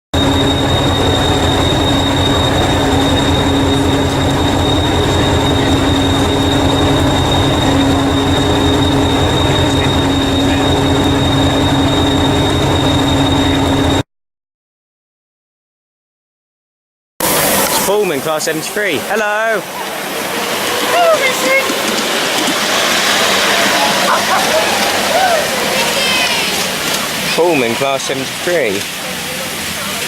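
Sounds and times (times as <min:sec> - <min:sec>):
miniature train whine: 0:00.1 - 0:14.0, 0:17.2 - 0:30.0
wheels rumbling on track: 0:00.1 - 0:14.0, 0:17.2 - 0:30.0.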